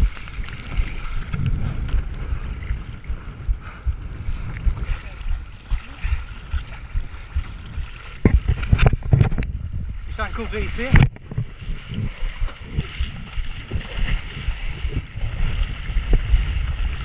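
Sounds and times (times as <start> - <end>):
water sloshing and splashing: 0.0 - 17.0
wind buffeting microphone: 0.0 - 17.0.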